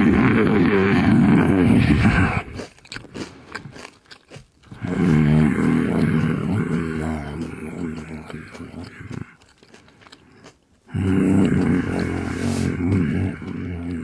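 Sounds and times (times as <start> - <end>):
chewing potato chips: 0.0 - 14.0.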